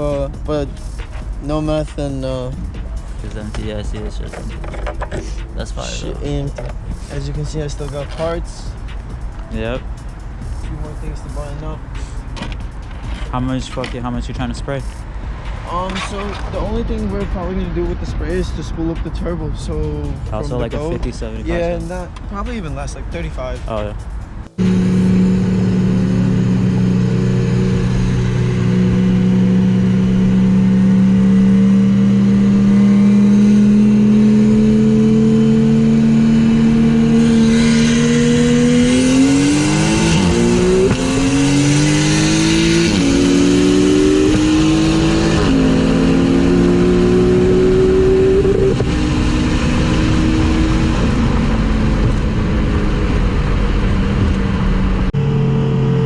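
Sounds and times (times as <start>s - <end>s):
car engine accelerating: 5.2s - 56.0s.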